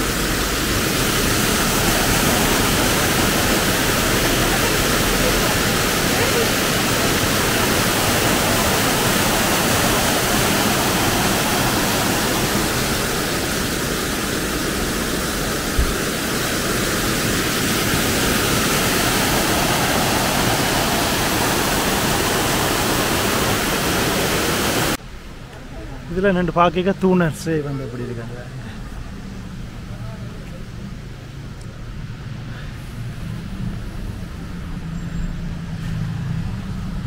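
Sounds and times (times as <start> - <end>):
waterfall rushing: 0.0 - 31.2.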